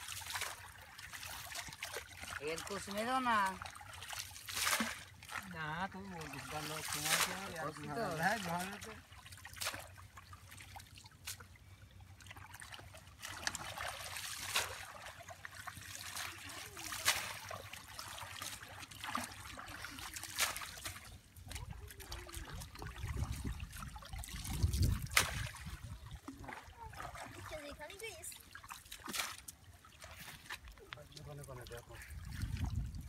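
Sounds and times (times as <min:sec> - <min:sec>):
sharp splashes: 0:00.0 - 0:11.6, 0:12.2 - 0:33.0
river water trickling and splashing: 0:00.0 - 0:33.0.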